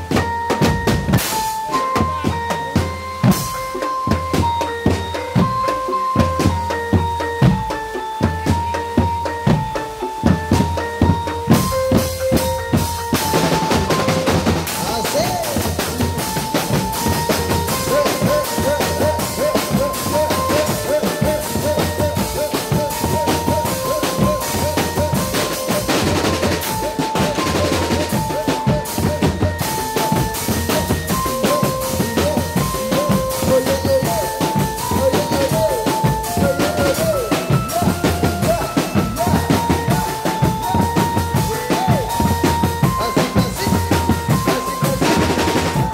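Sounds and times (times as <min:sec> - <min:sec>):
drum band music: 0:00.0 - 0:45.9
melody of held notes: 0:00.0 - 0:45.9.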